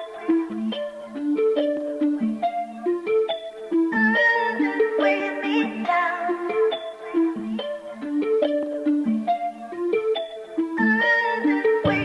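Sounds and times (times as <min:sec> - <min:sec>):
plucked melody: 0:00.0 - 0:12.0.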